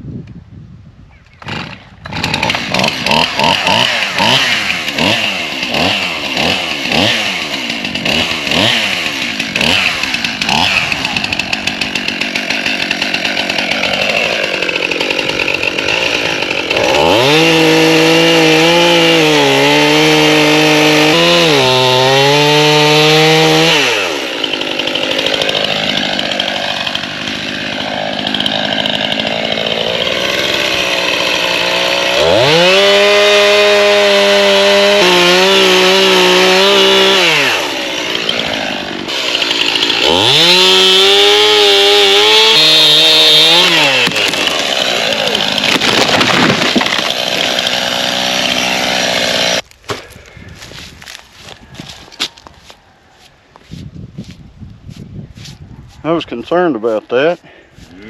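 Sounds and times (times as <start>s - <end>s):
chainsaw revving: 1.4s - 49.7s.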